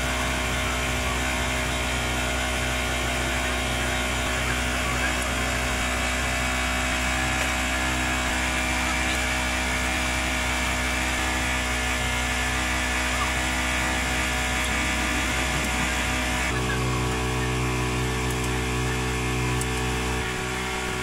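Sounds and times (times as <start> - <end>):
machine hum and whir: 0.0 - 21.0.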